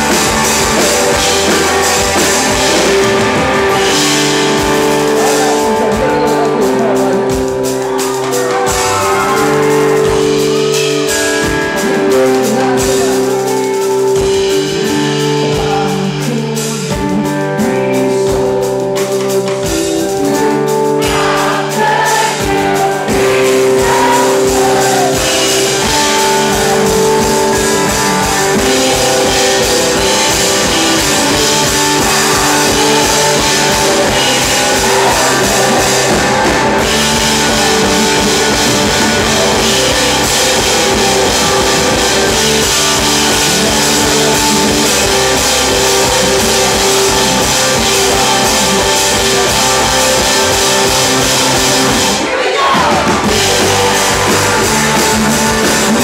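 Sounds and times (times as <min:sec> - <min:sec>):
acoustic-electric guitar: 0:00.0 - 0:56.0
drum kit: 0:00.0 - 0:56.0
man singing: 0:00.0 - 0:56.0.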